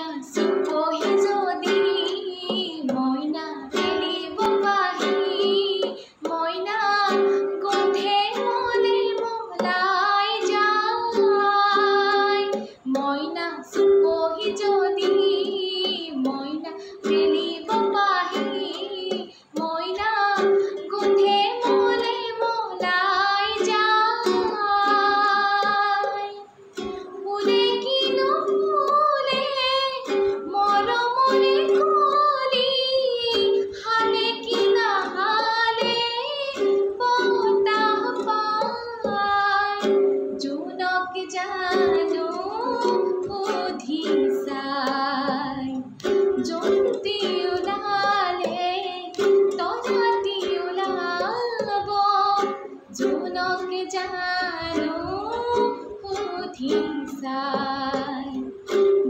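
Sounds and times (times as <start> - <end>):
instrumental accompaniment: 0.0 - 59.0
woman singing: 0.0 - 59.0.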